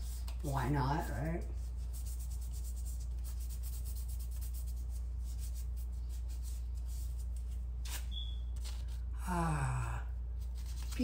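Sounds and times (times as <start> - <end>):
wax strip rubbing on skin: 0.0 - 9.0
low electrical hum: 0.0 - 11.0.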